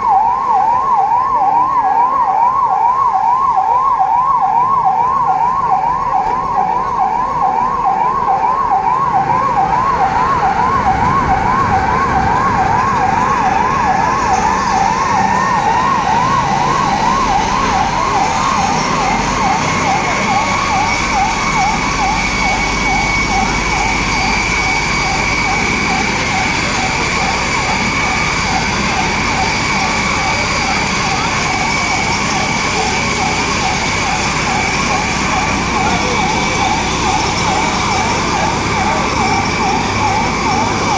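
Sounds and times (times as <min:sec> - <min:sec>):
electronic siren wailing fast: 0:00.0 - 0:40.9
higher siren tone climbing: 0:00.0 - 0:40.9.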